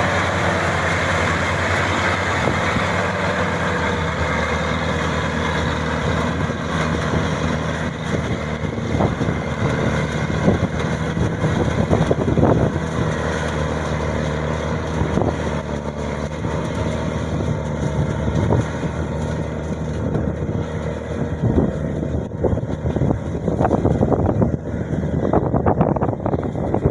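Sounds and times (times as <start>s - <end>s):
combine harvester engine running: 0.0s - 26.9s.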